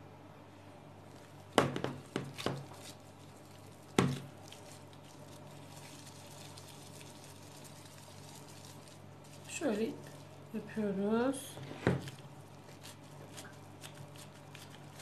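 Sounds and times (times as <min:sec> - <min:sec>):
hands handling dough and bowl: 0:01.0 - 0:15.0.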